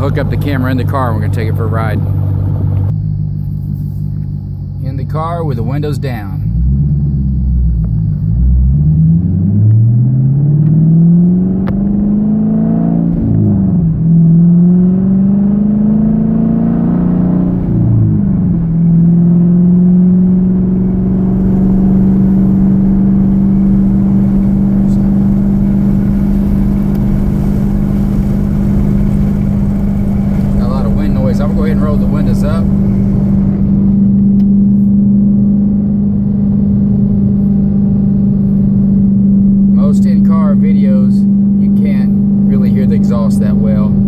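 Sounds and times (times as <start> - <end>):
car engine accelerating through gears: 0.0 - 44.0.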